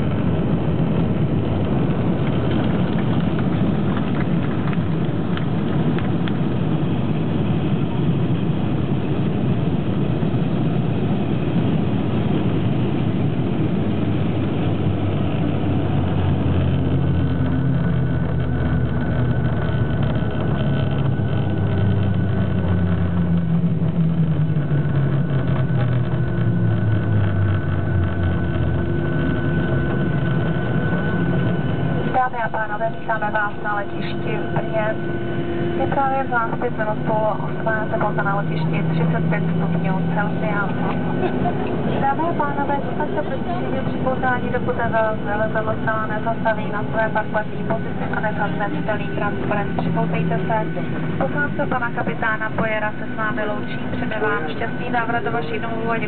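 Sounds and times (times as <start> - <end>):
jet engine and rolling rush: 0.0 - 56.0
engines winding down hum: 10.1 - 56.0.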